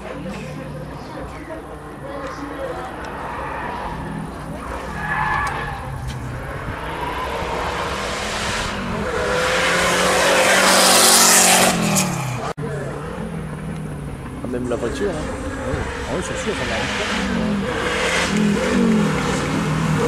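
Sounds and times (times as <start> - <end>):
rally car engine passing: 0.0 - 20.0
tyre noise: 0.0 - 20.0.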